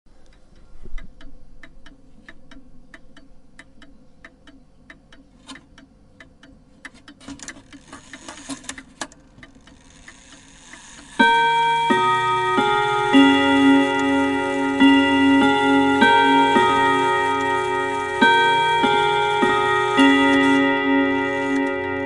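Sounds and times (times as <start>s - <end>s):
mechanical clock ticking: 0.2s - 22.0s
clock mechanism clicking and whirring: 0.3s - 22.0s.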